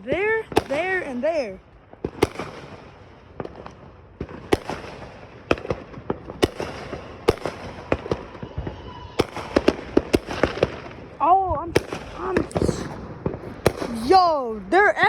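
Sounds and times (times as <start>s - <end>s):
faint fireworks crackling: 0.0s - 15.0s
fireworks bangs: 0.0s - 15.0s.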